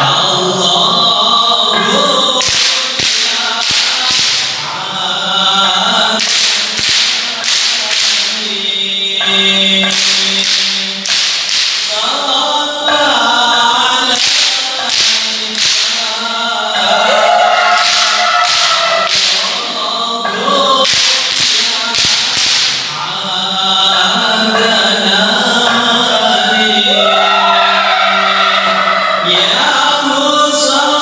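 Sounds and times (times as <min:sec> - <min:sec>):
young men chanting together: 0:00.0 - 0:31.0.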